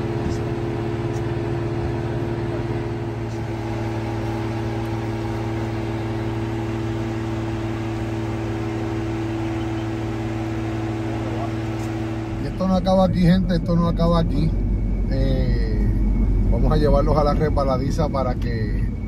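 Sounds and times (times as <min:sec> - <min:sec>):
vehicle engine running steadily: 0:00.0 - 0:19.0.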